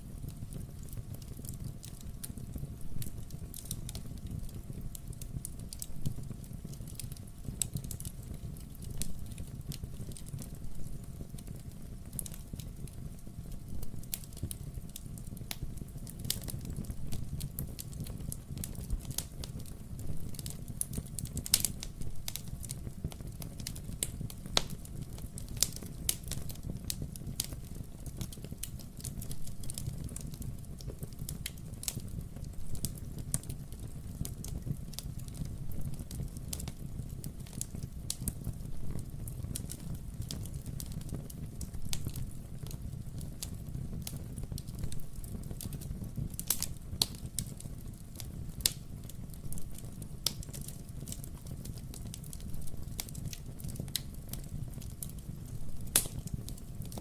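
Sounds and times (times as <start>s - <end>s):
fire rumbling: 0.0s - 57.0s
logs crackling and popping: 0.2s - 57.0s.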